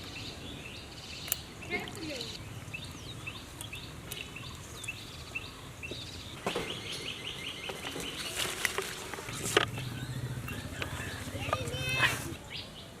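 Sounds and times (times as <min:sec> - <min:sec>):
outdoor background noise: 0:00.0 - 0:13.0
small bird chirping: 0:00.0 - 0:13.0.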